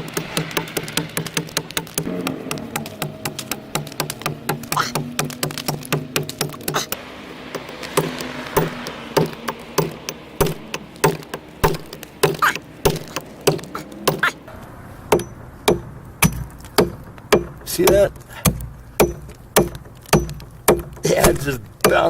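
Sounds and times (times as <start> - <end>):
chopping blade striking log: 0.0 - 14.4, 15.1 - 22.0.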